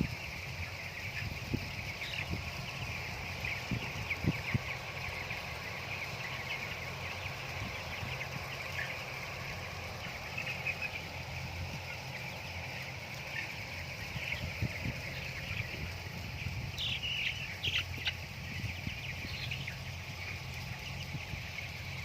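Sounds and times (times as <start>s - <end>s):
chickens peeping: 0.0s - 22.0s.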